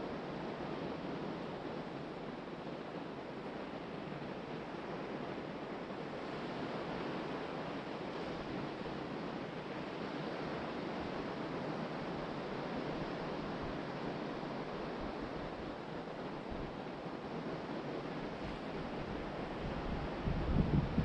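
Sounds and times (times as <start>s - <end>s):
ocean surf washing onto beach: 0.1s - 21.0s.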